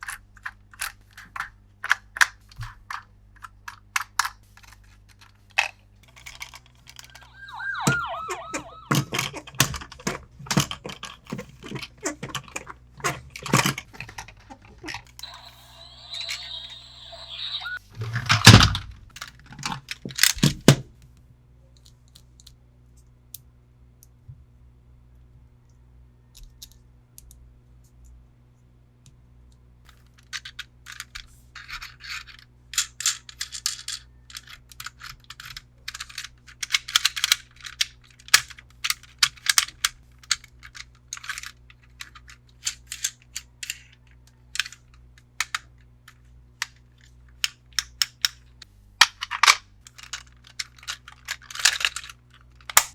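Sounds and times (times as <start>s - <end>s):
plastic toys being handled: 0.0s - 20.5s, 29.9s - 52.9s.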